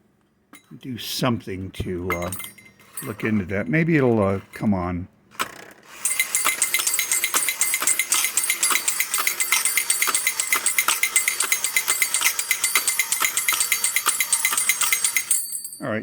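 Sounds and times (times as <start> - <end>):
toy drummer clattering on tin drums: 1.8 - 4.6, 5.4 - 15.8.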